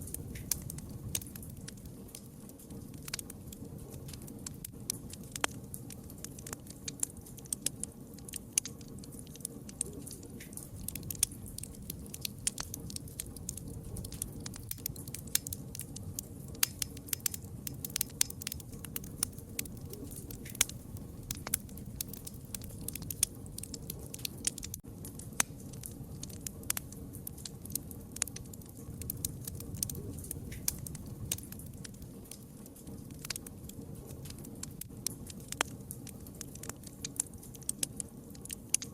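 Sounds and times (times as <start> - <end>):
low rumble of burning: 0.0 - 38.9
wood fire pops and snaps: 0.0 - 38.9.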